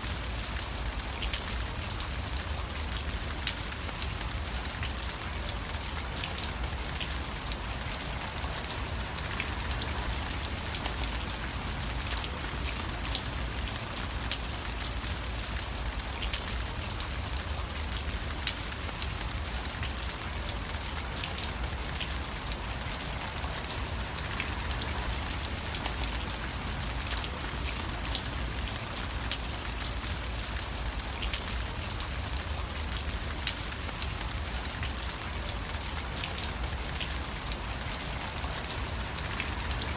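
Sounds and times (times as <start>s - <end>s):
raindrop ticks: 0.0s - 39.9s
steady rain patter: 0.0s - 39.9s.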